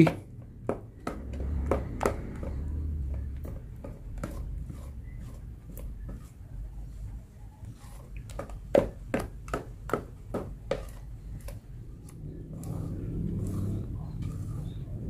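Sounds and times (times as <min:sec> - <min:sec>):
spatula beating batter in tub: 0:00.0 - 0:15.0.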